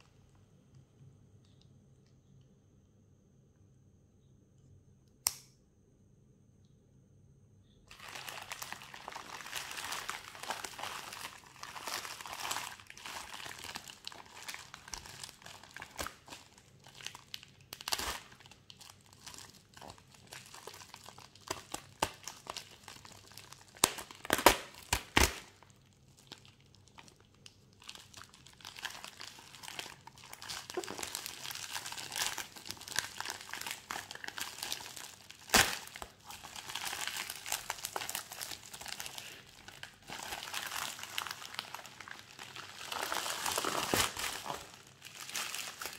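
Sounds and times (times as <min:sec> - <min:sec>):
packaging crinkling and rustling: 0:07.9 - 0:45.9.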